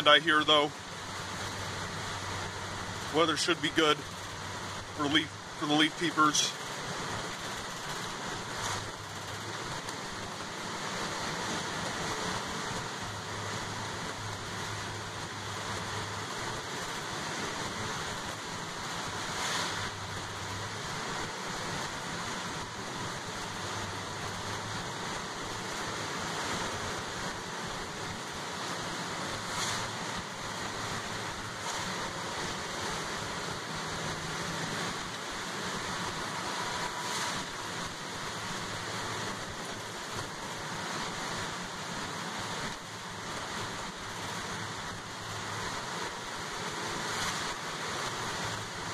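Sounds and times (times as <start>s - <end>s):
rain and wet tyre noise: 0.0s - 48.9s.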